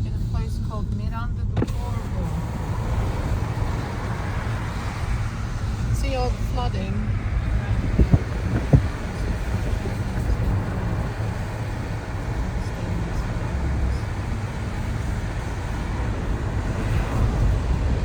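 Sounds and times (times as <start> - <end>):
car engine rumble: 0.0 - 18.0
tyre noise on road: 1.0 - 18.0.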